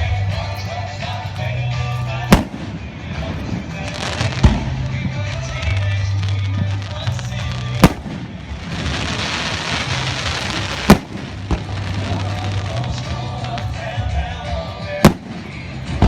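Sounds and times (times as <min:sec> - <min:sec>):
fireworks bangs: 0:02.2 - 0:16.0
crackling hiss of fireworks: 0:02.3 - 0:16.0.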